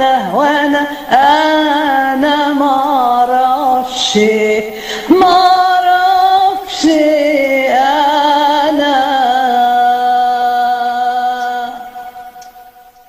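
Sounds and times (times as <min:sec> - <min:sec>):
person singing a long vibrato note: 0:00.0 - 0:13.0.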